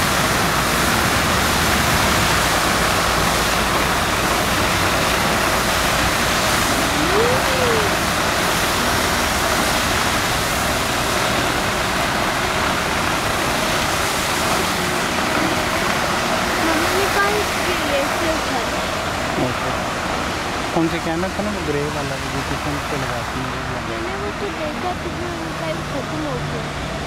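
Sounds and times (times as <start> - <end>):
street sweeper brooms rushing: 0.0 - 27.0.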